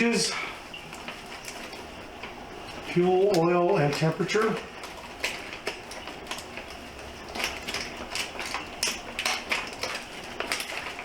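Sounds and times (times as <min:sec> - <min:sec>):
packaging crinkling: 0:00.7 - 0:11.0.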